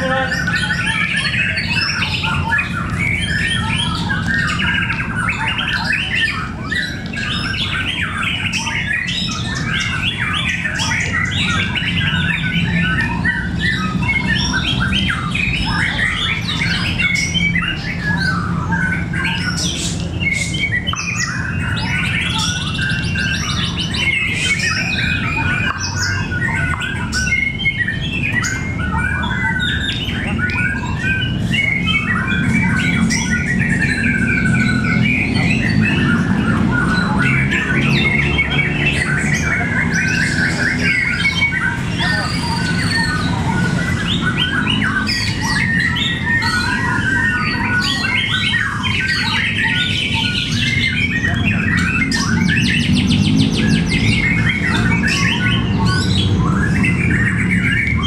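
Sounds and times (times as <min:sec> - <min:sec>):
chorus of birds singing: 0:00.0 - 0:58.0.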